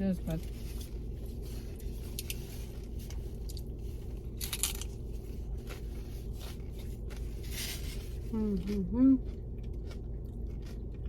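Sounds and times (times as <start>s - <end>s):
steady low hum: 0.0s - 11.0s
taco shells crunching: 0.4s - 11.0s.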